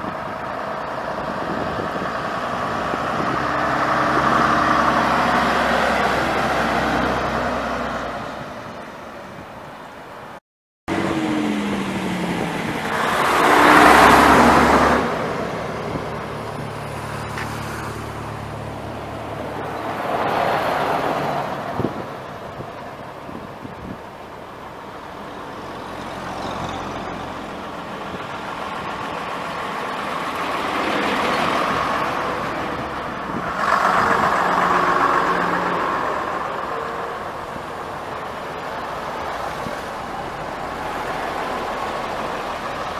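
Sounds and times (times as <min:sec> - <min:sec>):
loud vehicle pass-by: 0:00.0 - 0:08.8, 0:10.9 - 0:24.0, 0:25.0 - 0:42.9
diesel bus engine passing: 0:00.0 - 0:42.9.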